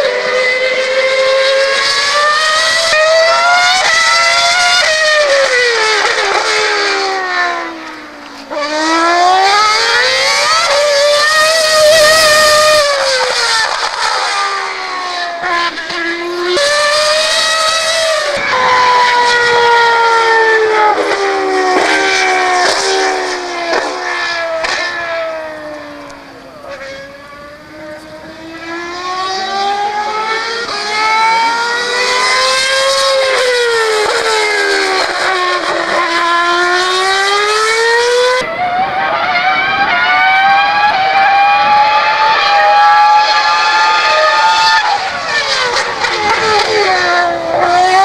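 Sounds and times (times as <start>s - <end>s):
racing car engine revving: 0.0s - 48.0s.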